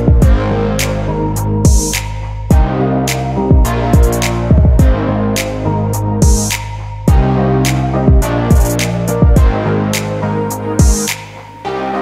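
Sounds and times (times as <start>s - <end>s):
slow beat background music: 0.0s - 12.0s.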